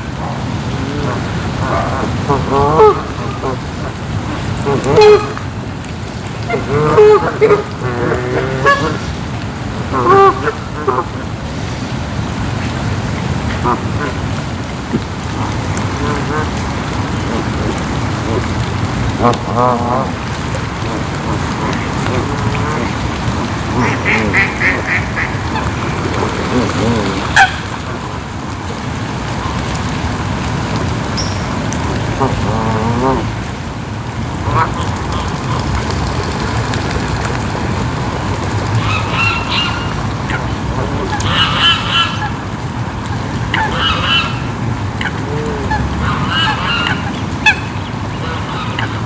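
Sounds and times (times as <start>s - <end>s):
swans honking: 0.0s - 5.7s, 6.3s - 29.8s, 34.2s - 49.0s
waterfowl calling: 0.0s - 33.7s, 34.3s - 49.0s
rain hiss: 0.0s - 49.0s.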